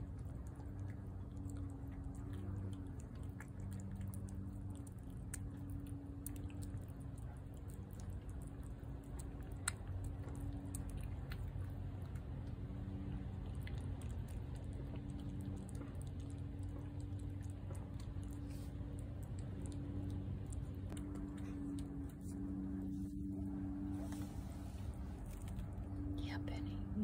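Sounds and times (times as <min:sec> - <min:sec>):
cat chewing wet food: 0:00.0 - 0:26.2
steady low hum: 0:00.0 - 0:27.0.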